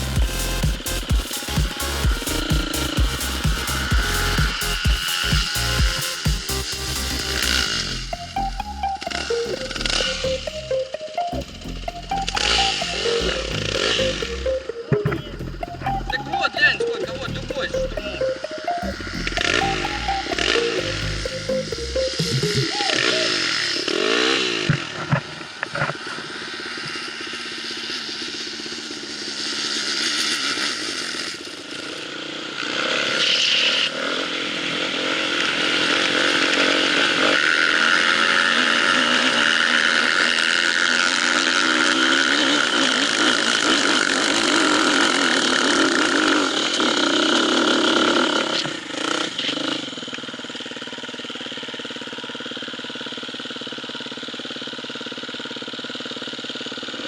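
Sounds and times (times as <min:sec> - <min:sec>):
motorcycle engine revving: 0:00.0 - 0:10.7, 0:11.7 - 0:57.0.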